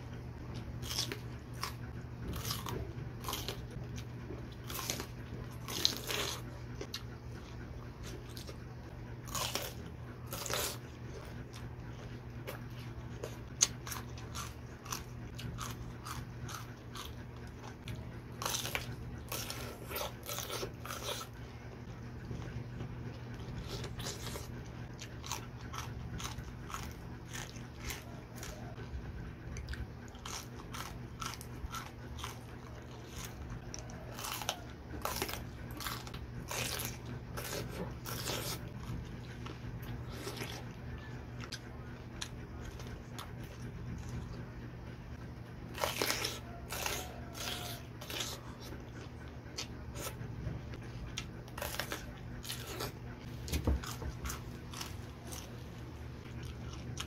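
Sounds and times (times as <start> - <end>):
steady low hum: 0.0 - 57.0
crunching raw vegetables: 0.2 - 57.0.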